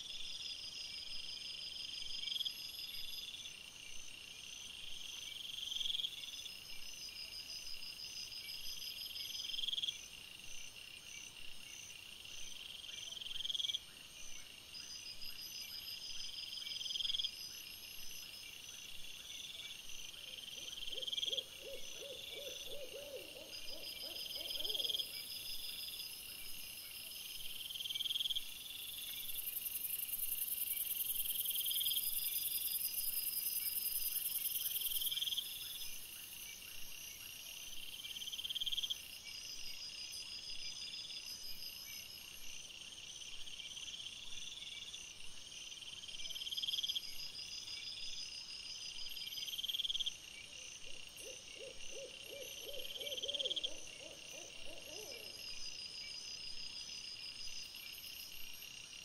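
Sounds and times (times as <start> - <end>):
insects chirping: 0.0 - 59.0
low rapidly pulsing insect call: 0.0 - 59.0.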